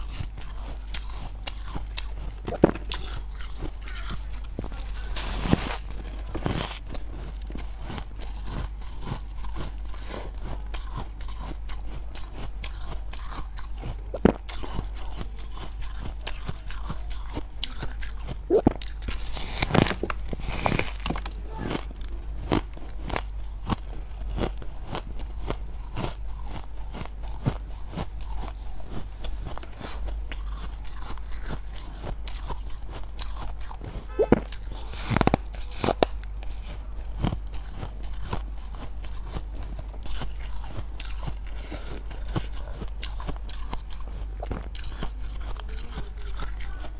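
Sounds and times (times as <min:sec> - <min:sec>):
crunching frost: 0:00.0 - 0:46.9
steady low hum: 0:00.0 - 0:46.9.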